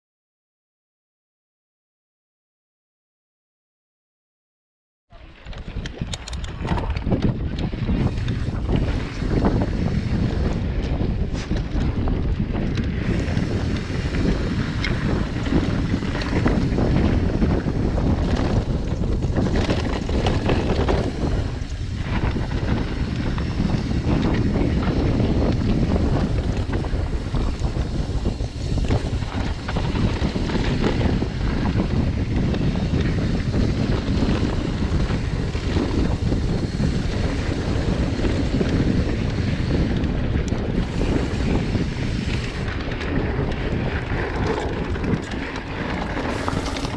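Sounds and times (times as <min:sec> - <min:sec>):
bike tyres rattling over trail: 0:05.1 - 0:46.9
wind buffeting microphone: 0:05.1 - 0:46.9.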